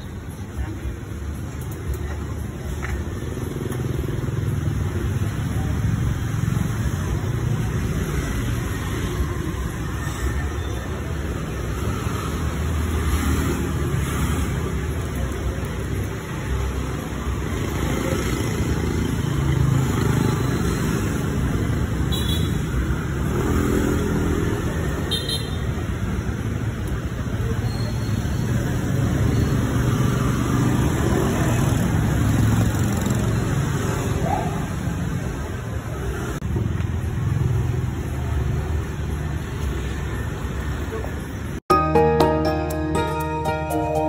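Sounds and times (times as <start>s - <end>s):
motorbike engines: 0.0s - 44.0s
road noise: 0.0s - 44.0s.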